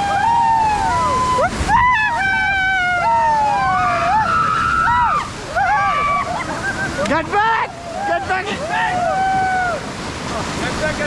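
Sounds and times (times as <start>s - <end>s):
people screaming: 0.0s - 9.9s
rushing white water: 0.0s - 11.0s.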